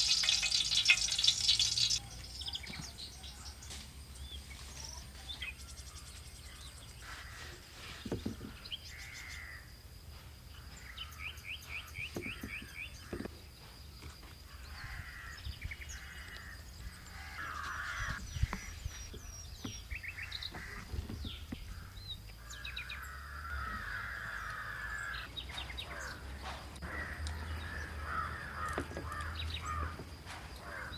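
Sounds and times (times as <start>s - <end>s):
birds calling and chirping: 0.0s - 30.9s.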